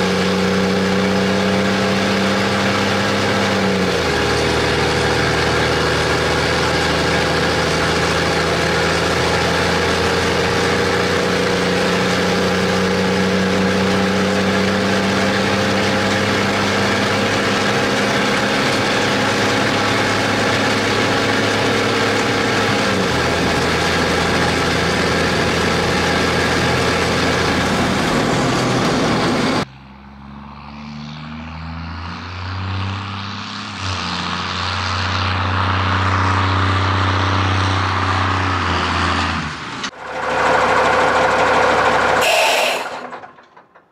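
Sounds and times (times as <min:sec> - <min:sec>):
diesel truck engine drone: 0:00.0 - 0:43.9
truck approaching: 0:00.0 - 0:43.9.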